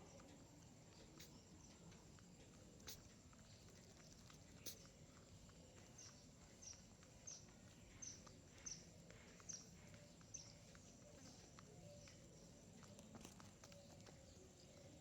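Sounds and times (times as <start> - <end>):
small bird chirping: 0.9 - 15.0.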